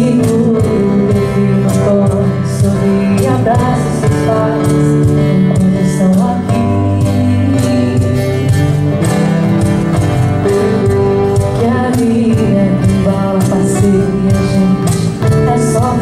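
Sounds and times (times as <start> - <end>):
woman singing: 0.0 - 9.1, 10.3 - 16.0
bass: 0.0 - 16.0
hand percussion beat: 0.0 - 16.0
strummed acoustic guitars: 0.0 - 16.0.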